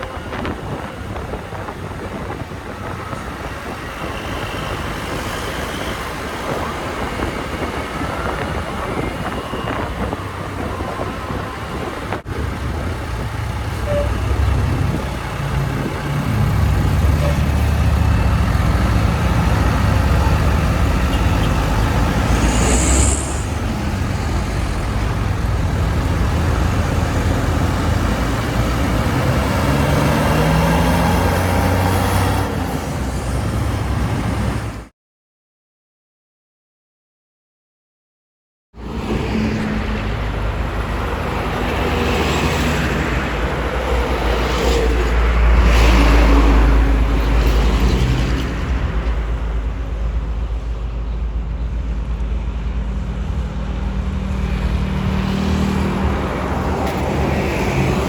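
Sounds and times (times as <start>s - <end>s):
bus diesel engine running: 0.0s - 34.9s, 39.8s - 58.0s
road traffic: 0.0s - 34.9s, 38.8s - 58.0s.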